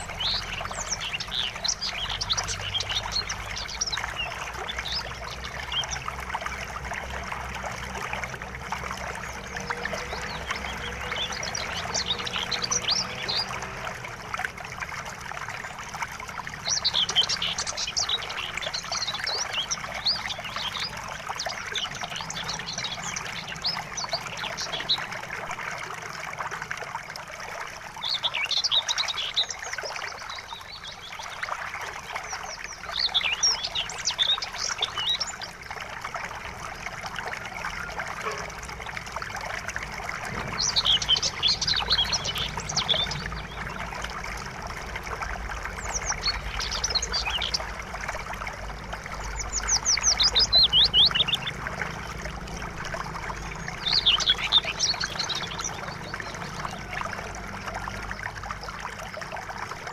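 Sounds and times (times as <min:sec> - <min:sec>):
river water rushing: 0:00.0 - 0:59.9
songbirds chirping: 0:00.0 - 0:59.9.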